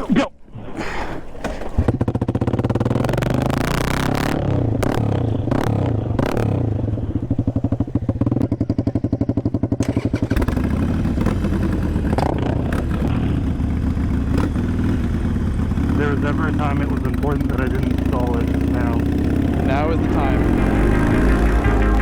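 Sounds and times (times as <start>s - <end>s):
exhaust cracks: 1.4s - 22.0s
loud motorcycle engine: 2.0s - 22.0s.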